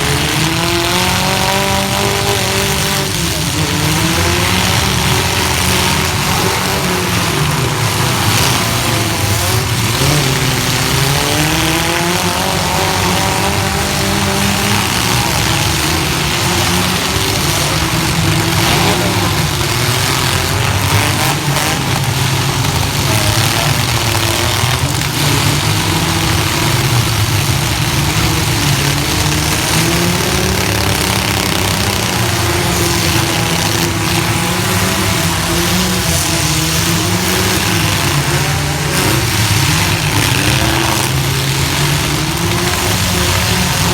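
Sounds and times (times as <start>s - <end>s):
pickup truck engines revving: 0.0s - 43.9s.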